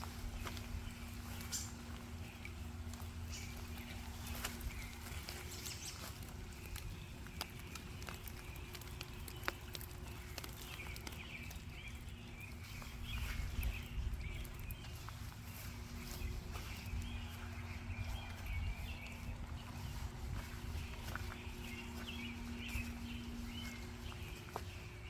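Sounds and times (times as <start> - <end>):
birds chirping: 0.0 - 25.0
steady low rumble: 0.0 - 25.0.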